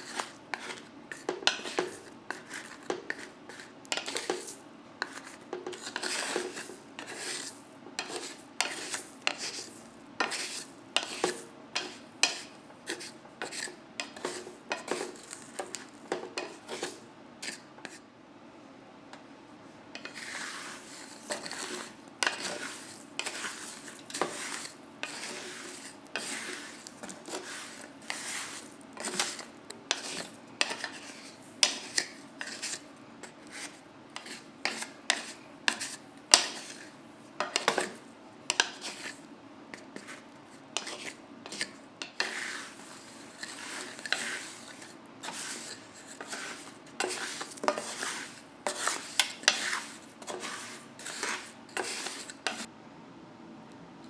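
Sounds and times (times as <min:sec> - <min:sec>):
chestnuts scraping in salt: 0:00.0 - 0:18.0, 0:20.0 - 0:52.7.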